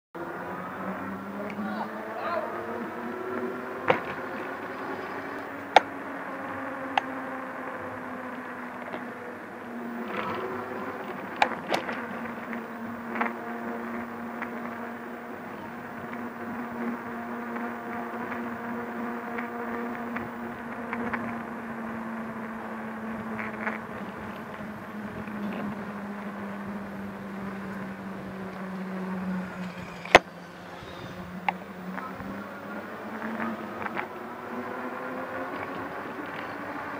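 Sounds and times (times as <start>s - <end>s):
electric bike motor whining: 0.2s - 36.9s.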